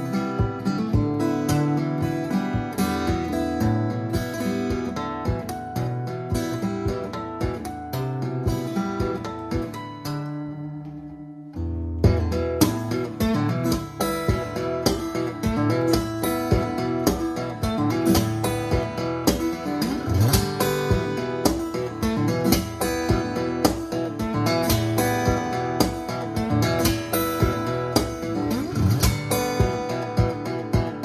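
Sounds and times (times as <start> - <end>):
guitar-led music with steady beat: 0.0 - 31.0.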